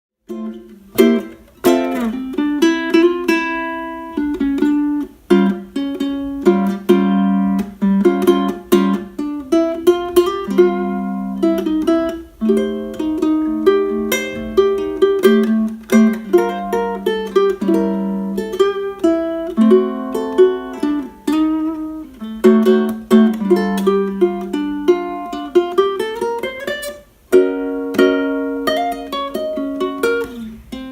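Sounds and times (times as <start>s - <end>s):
fingerpicked ukulele melody: 0.2s - 30.9s.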